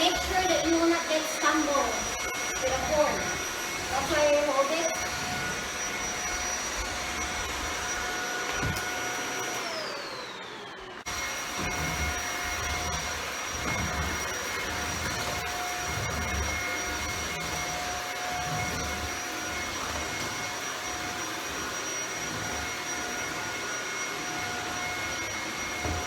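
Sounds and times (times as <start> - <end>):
vacuum cleaner motor whine: 0.0 - 26.0.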